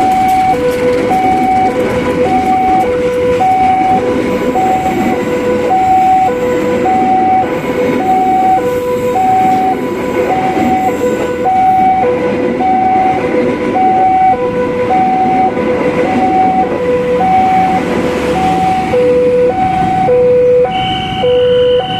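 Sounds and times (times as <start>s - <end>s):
passing train rumble: 0.0s - 21.9s.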